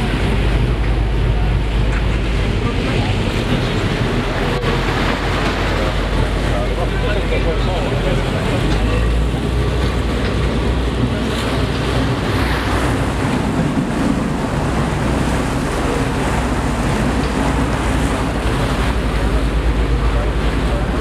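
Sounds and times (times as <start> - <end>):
boat engine rumble: 0.0 - 21.0
water splashing along hull: 0.0 - 21.0.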